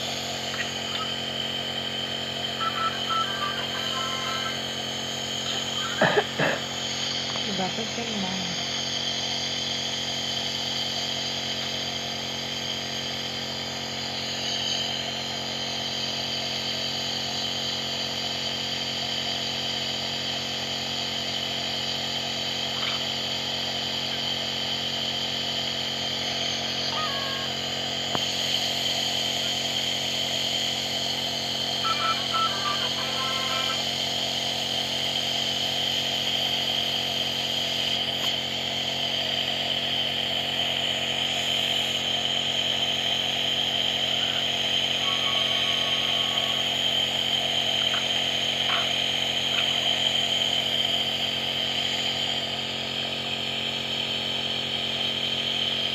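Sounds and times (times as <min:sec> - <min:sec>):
nebulizer motor hum: 0:00.0 - 0:55.9.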